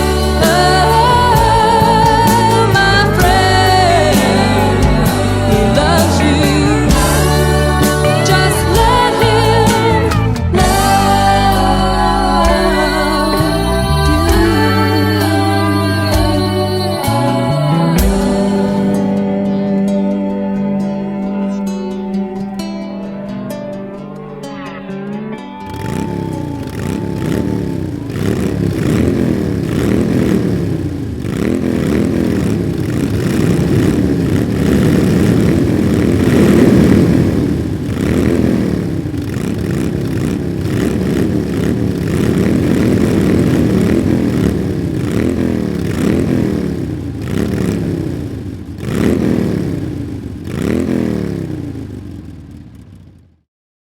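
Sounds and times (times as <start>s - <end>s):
motorcycle engines revving: 0.0s - 53.3s.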